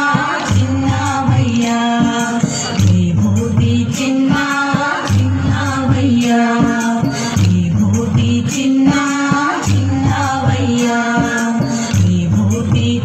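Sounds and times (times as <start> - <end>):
person singing devotional song: 0.0 - 13.0
steady percussion beat: 0.0 - 13.0.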